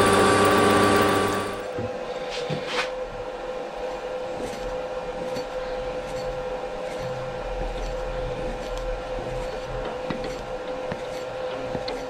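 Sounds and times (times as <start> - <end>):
milling machine spindle humming: 0.0 - 2.3, 3.0 - 12.0.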